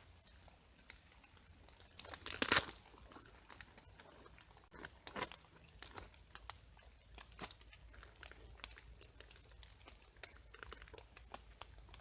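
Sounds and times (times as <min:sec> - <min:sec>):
foil pouch crinkling: 0:01.9 - 0:12.0.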